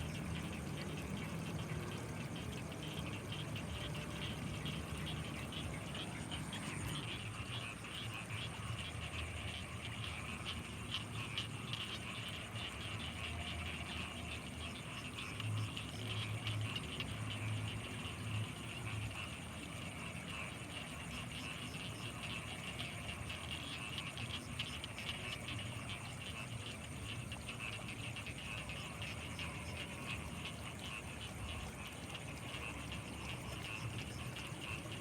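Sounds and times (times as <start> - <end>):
frogs croaking: 0.0 - 35.0
high-pitched insect whine: 0.0 - 35.0
insects pulsing chirr: 0.0 - 35.0.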